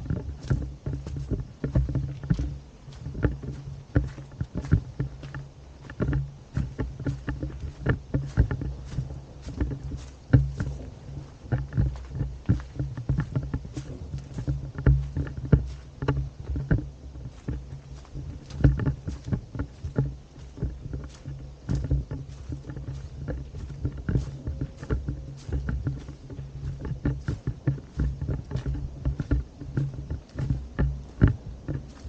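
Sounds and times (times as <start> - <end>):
footsteps: 0.0 - 32.0.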